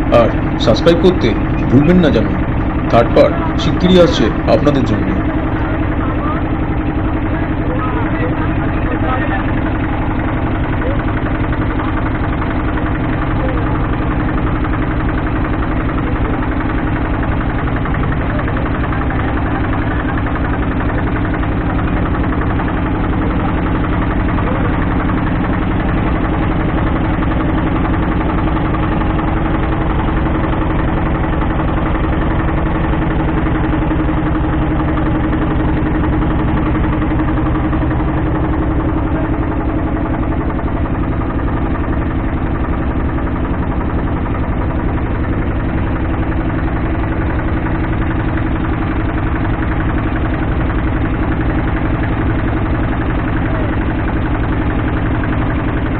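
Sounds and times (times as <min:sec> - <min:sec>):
motorboat engine running: 0:00.0 - 0:55.9.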